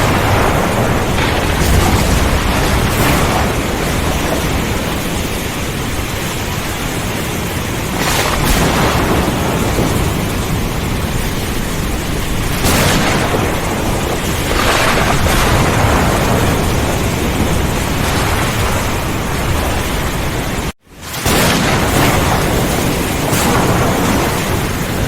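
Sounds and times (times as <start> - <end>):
heavy rain downpour: 0.0 - 25.0
rolling thunder rumble: 0.0 - 25.0
thunder cracks: 0.0 - 25.0.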